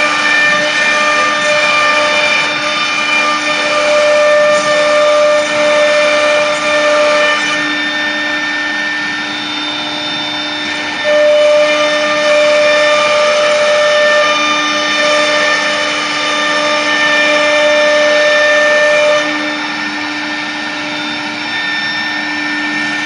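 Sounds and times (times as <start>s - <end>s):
cnc router whine: 0.0s - 23.0s.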